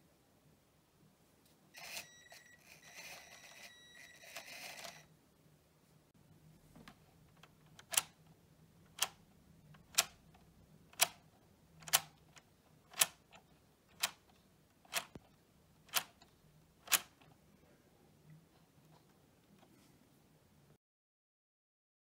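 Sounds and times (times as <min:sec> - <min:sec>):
faint low hum: 0:00.0 - 0:20.8.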